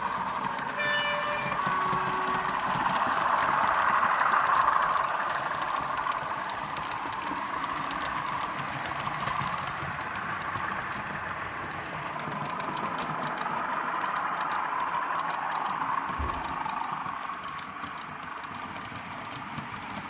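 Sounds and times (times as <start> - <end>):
model train whirring: 0.0 - 20.0
wheels clicking over rail joints: 0.0 - 20.0.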